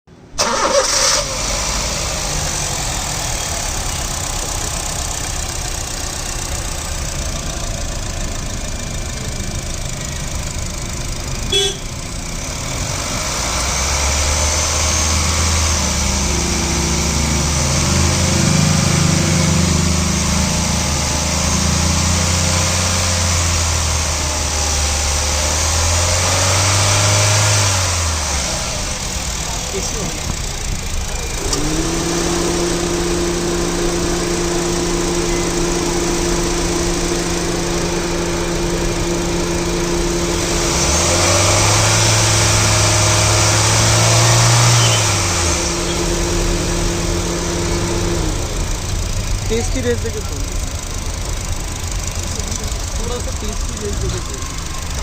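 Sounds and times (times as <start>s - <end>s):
car engine idling: 0.1s - 55.0s.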